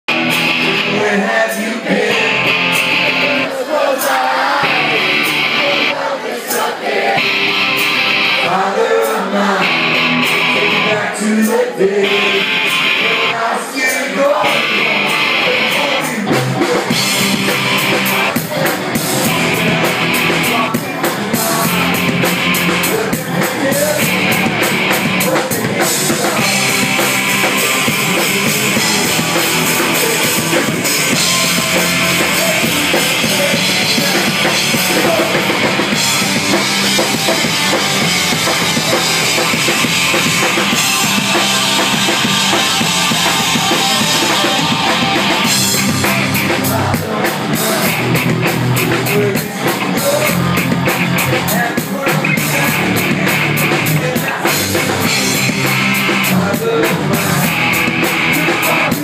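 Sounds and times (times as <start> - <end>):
electric guitar: 0.0 - 59.0
drum kit: 0.1 - 59.0
man singing: 0.2 - 59.0.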